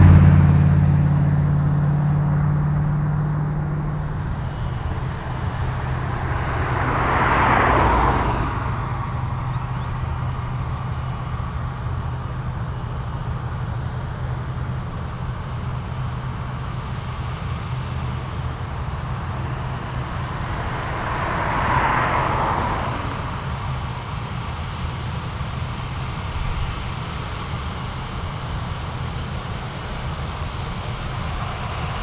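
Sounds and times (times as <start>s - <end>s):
rushing noise: 0.0s - 24.6s, 29.2s - 32.0s
jet engines rumbling: 0.0s - 26.3s, 27.0s - 32.0s.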